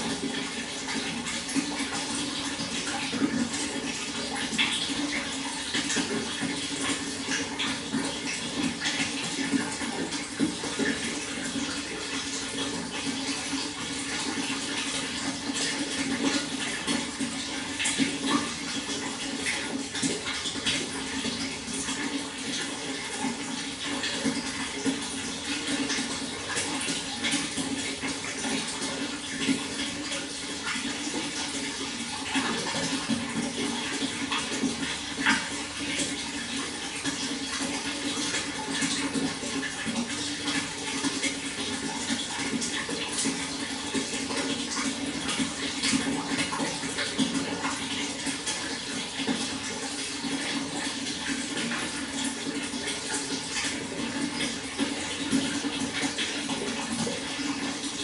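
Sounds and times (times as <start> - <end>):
water flowing and splashing: 0.0 - 58.0.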